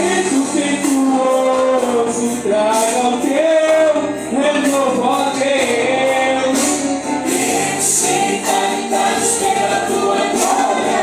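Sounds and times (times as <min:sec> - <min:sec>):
band playing worship music: 0:00.0 - 0:11.0
singers holding long notes: 0:00.0 - 0:11.0.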